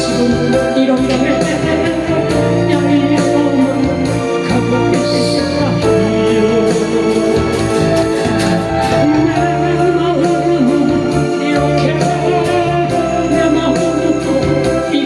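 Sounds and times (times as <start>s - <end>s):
instrumental accompaniment: 0.0s - 15.0s
person singing: 0.0s - 15.0s.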